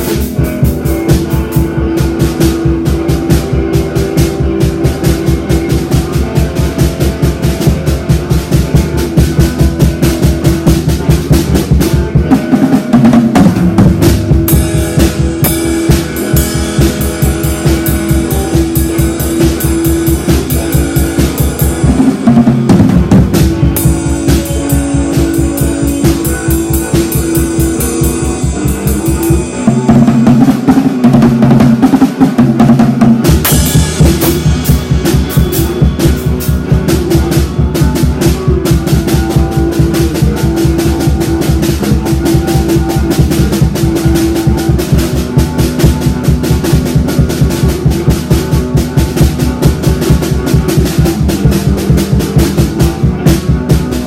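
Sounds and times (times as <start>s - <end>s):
rock music with drums and guitar: 0.0s - 54.0s.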